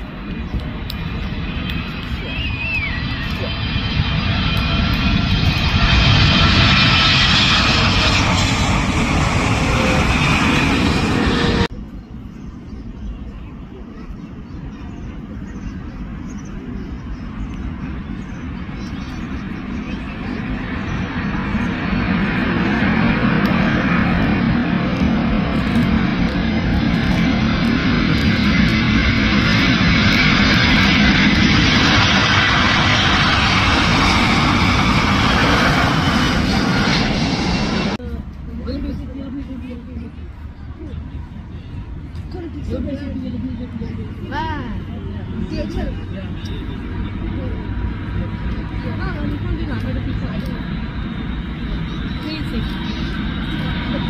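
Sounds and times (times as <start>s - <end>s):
jet plane roaring overhead: 0.0s - 54.0s.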